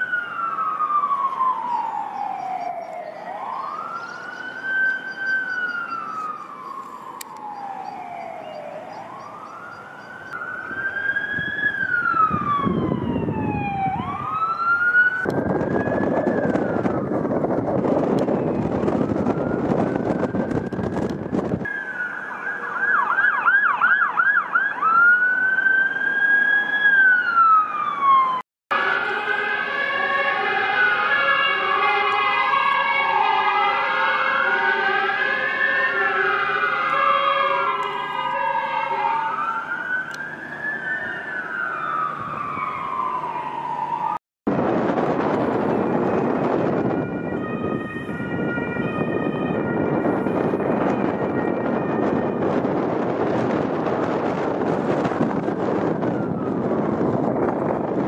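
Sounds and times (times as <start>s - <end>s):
ambulance siren yelp and wail: 0.0s - 58.0s
engine and road noise: 0.0s - 58.0s
fire engine sirens wailing: 0.0s - 58.0s
high-low two-tone siren: 0.0s - 58.0s.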